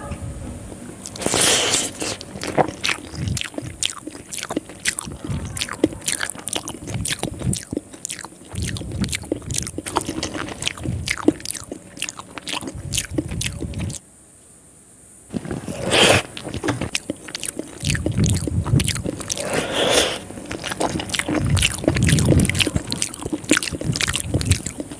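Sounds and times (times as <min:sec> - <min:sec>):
wet chewing and mouth sounds: 0:01.0 - 0:14.0, 0:15.3 - 0:24.9.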